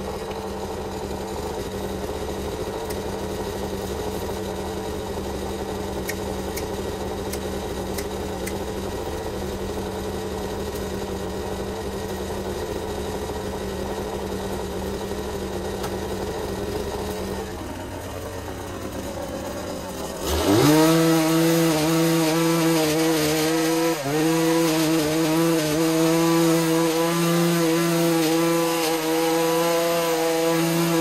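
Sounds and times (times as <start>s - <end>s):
small two-stroke engine idling: 0.0s - 31.0s.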